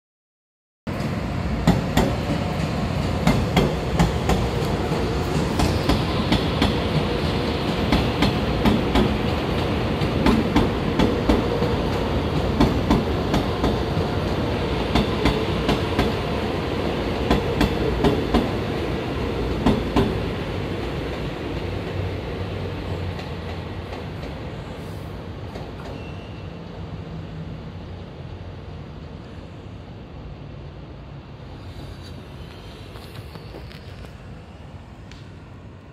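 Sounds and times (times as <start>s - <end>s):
electric train rumbling past: 0.9s - 35.9s.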